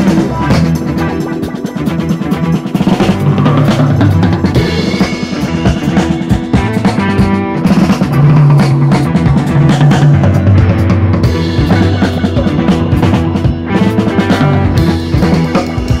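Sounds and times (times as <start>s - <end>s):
music with drum beat: 0.0s - 16.0s.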